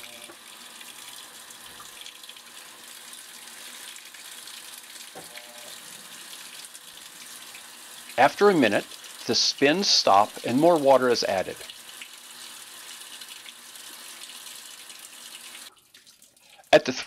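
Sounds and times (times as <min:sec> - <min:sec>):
water running into washing machine: 0:00.0 - 0:16.6.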